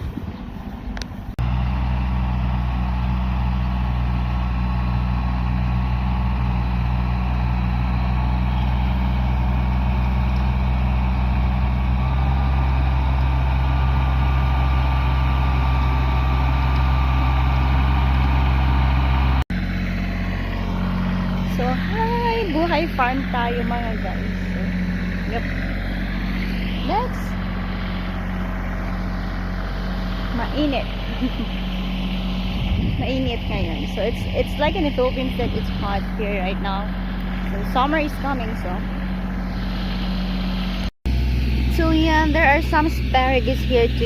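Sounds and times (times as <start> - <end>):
tiller engine humming: 0.0 - 44.0.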